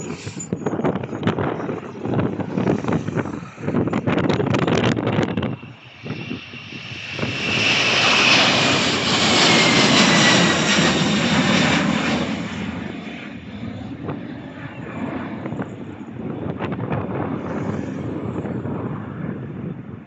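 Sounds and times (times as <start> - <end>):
airliner engine passing: 0.0 - 20.0.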